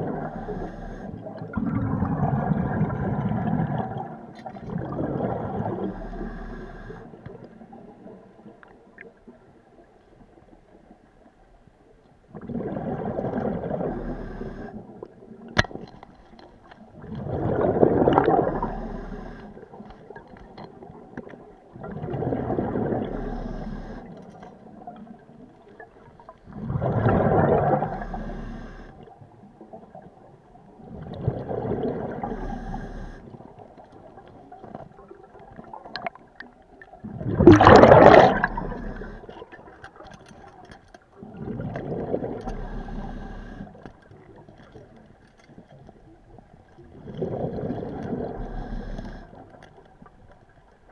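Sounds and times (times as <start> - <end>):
underwater bubbles from regulator: 0.0 - 10.5, 12.3 - 50.9.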